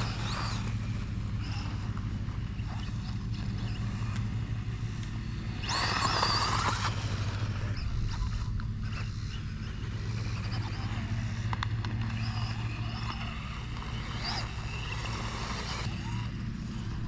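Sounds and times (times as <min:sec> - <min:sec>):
electric motor whining: 0:00.0 - 0:17.0
steady low hum: 0:00.0 - 0:17.0.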